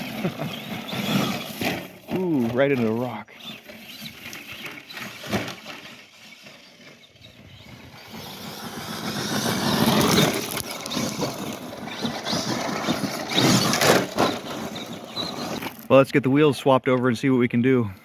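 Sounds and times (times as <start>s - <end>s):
rc truck motor whining: 0.0s - 15.9s.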